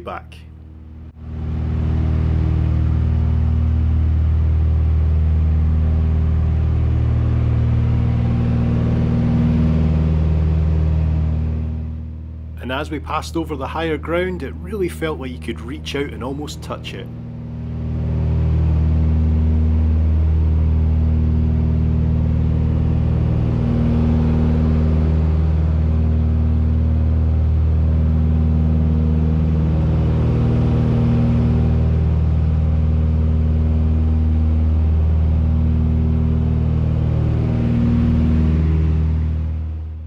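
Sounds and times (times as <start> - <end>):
aircraft cabin engine drone: 0.0 - 40.0.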